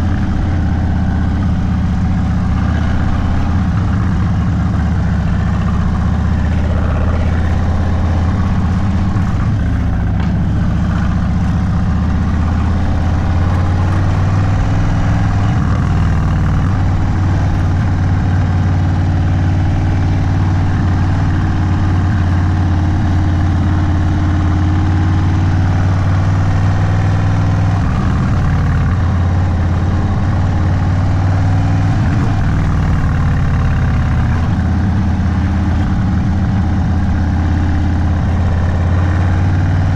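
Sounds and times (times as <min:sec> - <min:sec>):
v-twin motorcycle engine idling: 0:00.0 - 0:39.9.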